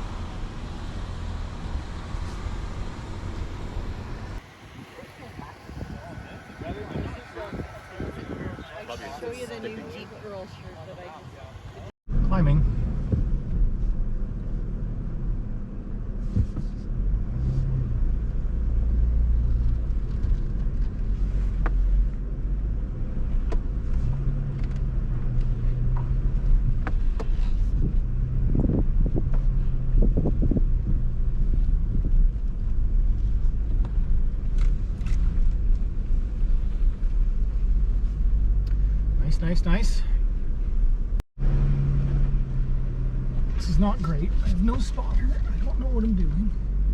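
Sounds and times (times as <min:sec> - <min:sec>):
truck engine running at low revs: 0:00.0 - 0:46.9.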